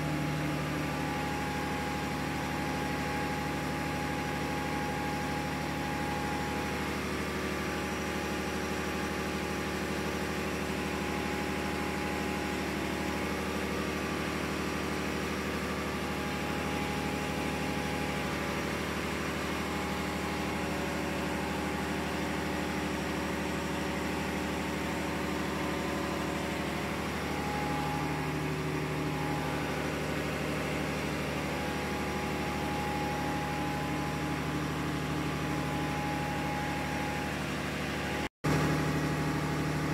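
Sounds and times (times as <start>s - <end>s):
engine room machinery drone: 0.0s - 39.9s.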